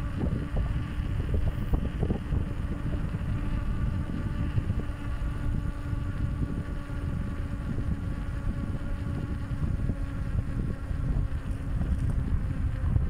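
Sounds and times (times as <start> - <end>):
bicycle road rumble: 0.0 - 13.0
steady buzzing hum: 0.0 - 13.0
wind buffeting microphone: 0.0 - 13.0.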